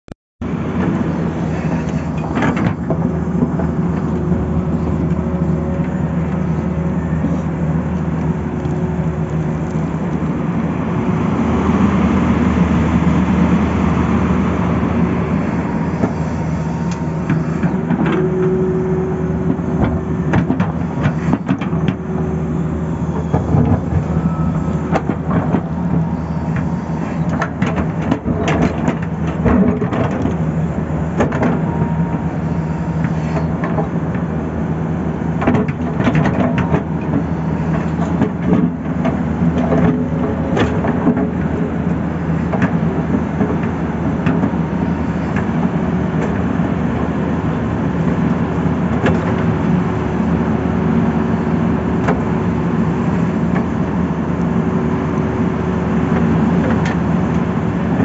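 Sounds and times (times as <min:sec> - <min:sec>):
excavator diesel engine running: 0:00.4 - 0:58.0.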